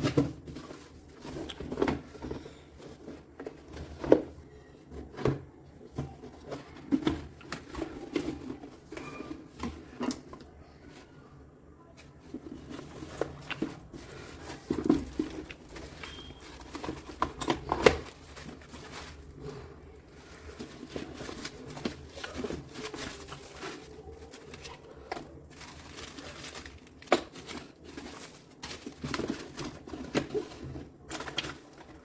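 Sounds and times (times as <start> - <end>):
objects being handled: 0.0 - 32.0.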